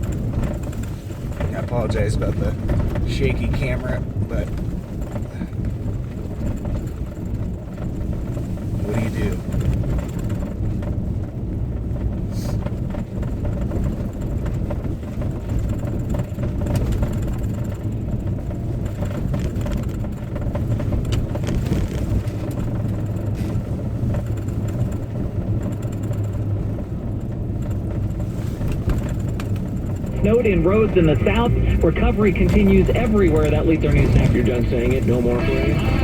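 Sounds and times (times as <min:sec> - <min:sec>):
car engine drone inside cabin: 0:00.0 - 0:36.0
tyres on snowy road: 0:00.0 - 0:36.0.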